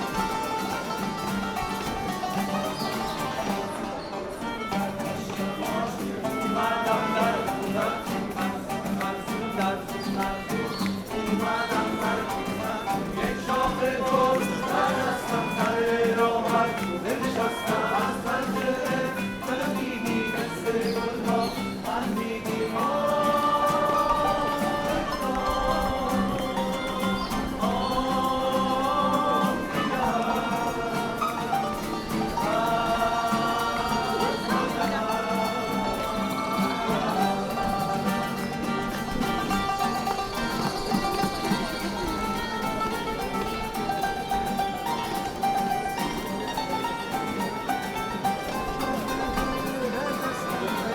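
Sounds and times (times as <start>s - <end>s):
street musicians playing: 0.0s - 50.9s
person singing: 4.2s - 50.9s.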